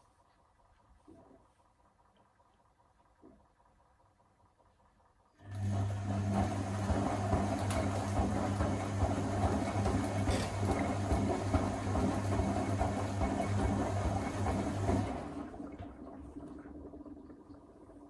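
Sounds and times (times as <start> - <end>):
washing machine motor humming: 1.2 - 18.0.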